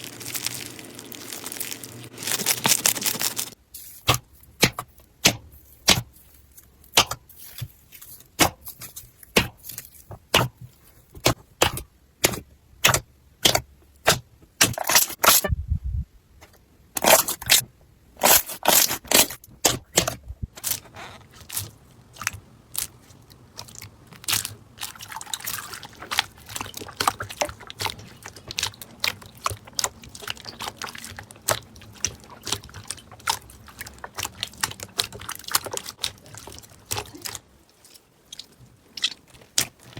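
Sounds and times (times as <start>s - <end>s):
crunchy slime crackling and popping: 0.0s - 10.4s, 18.2s - 39.9s.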